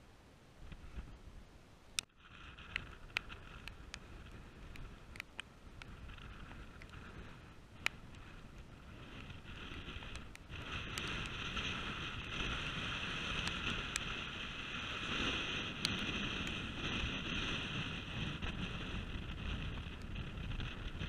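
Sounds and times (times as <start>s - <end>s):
wind buffeting microphone: 2.2s - 21.0s.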